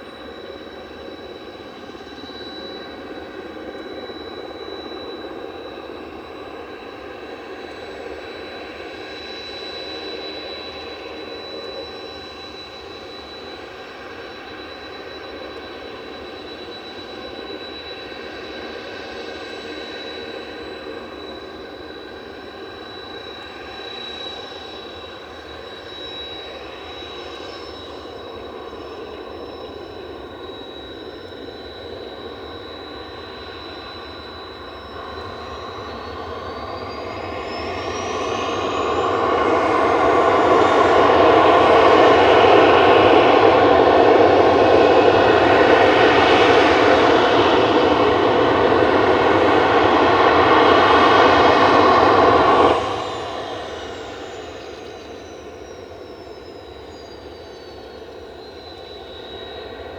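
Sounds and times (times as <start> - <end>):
jet engine whine and roar: 0.0 - 59.9.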